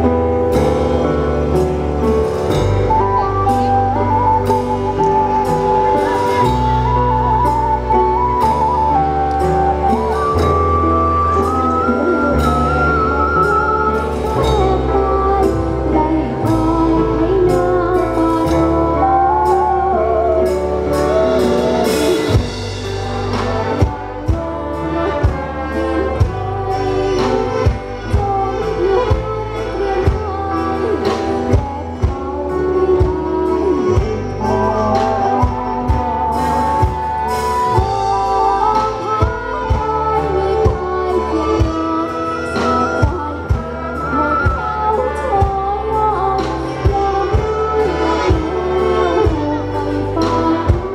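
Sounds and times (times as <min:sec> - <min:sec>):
live band through loudspeakers: 0:00.0 - 0:50.9.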